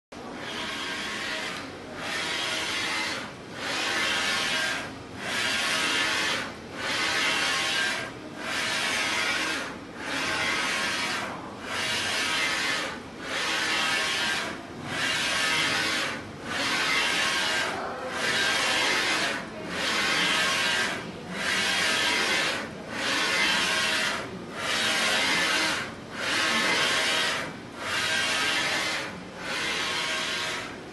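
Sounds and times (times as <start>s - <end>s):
printer carriage whirring: 0.2s - 30.9s.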